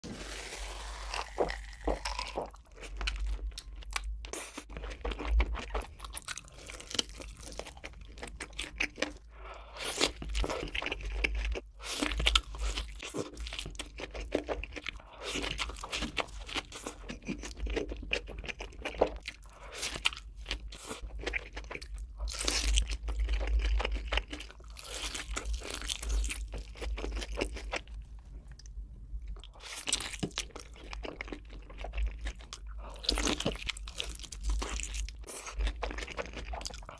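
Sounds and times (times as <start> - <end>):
person chewing crunchy food: 0.0 - 36.9.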